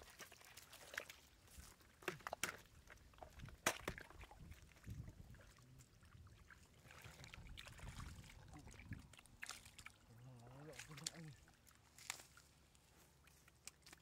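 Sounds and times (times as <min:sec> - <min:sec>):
muddy water splashing: 0:00.0 - 0:14.0.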